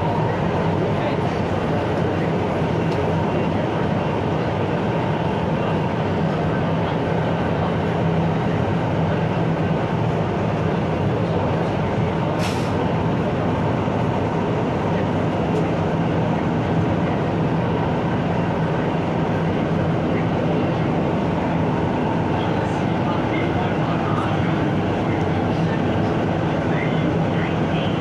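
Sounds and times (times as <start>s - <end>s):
train cabin running noise: 0.0s - 28.0s.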